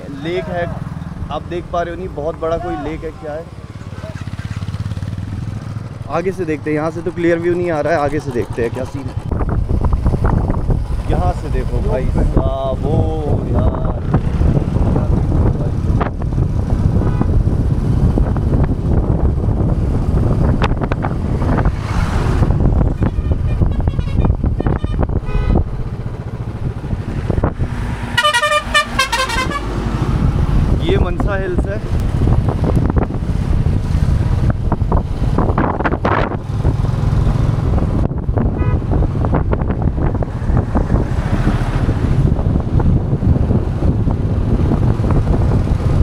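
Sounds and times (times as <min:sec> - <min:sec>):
wind buffeting microphone: 0:04.3 - 0:28.2, 0:29.3 - 0:46.0.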